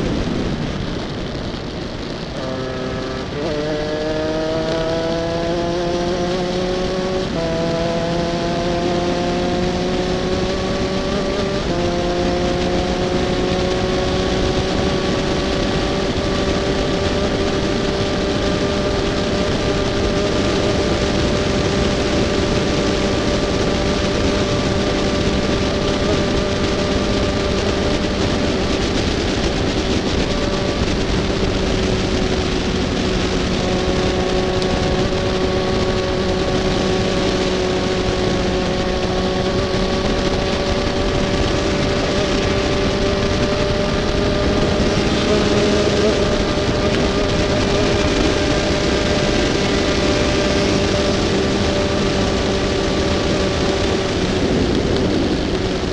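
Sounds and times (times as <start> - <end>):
kart engine at high revs: 0.0 - 55.9
wind noise: 0.0 - 55.9.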